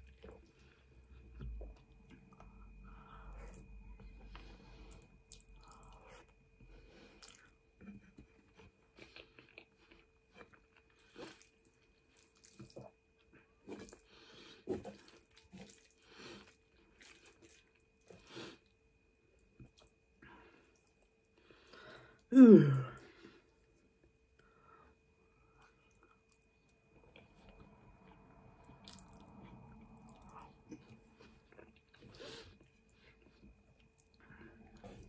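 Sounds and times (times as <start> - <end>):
faint chewing: 0.0 - 22.2, 23.2 - 35.0.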